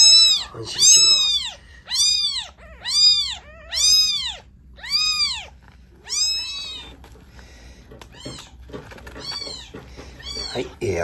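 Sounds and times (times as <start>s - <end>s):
kitten mewing: 0.0s - 7.0s, 8.1s - 11.0s.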